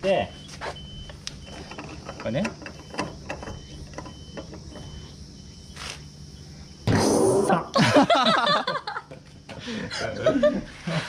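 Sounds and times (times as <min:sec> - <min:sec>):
intermittent high tone: 0:00.0 - 0:10.8.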